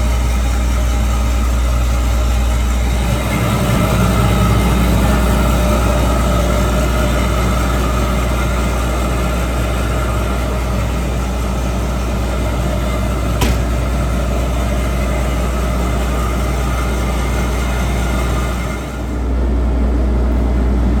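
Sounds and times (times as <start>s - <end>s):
harvester engine humming: 0.0s - 21.0s.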